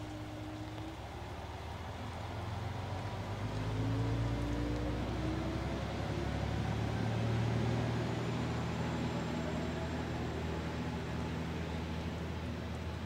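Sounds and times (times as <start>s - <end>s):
railcar engine drone: 0.0s - 13.0s.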